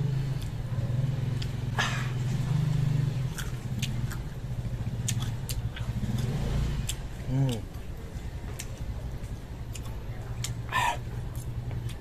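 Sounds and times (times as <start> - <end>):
steady low hum: 0.0 - 12.0
crunchy chewing: 0.1 - 12.0.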